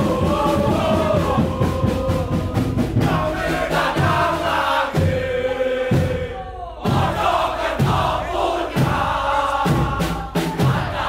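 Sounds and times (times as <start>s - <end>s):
crowd singing a chant: 0.0s - 11.0s
steady beat: 0.0s - 11.0s.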